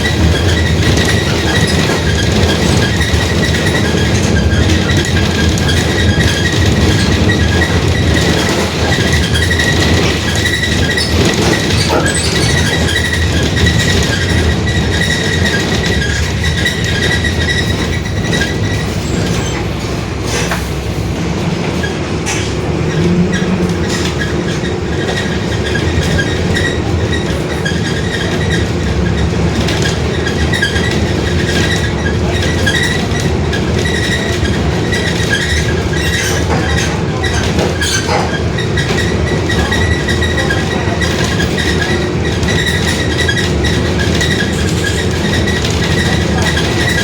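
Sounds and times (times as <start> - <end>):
bus body rattles and knocks: 0.0 - 47.0
diesel bus engine rumble: 0.0 - 47.0.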